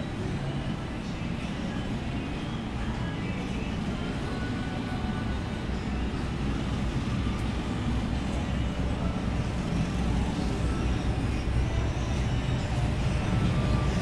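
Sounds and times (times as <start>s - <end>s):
shop interior rumble: 0.0s - 14.0s.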